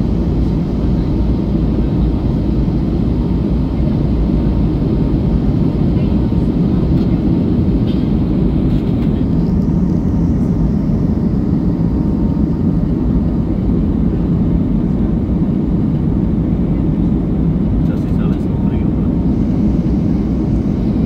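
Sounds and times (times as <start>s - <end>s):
airliner engine rumble: 0.0s - 21.0s.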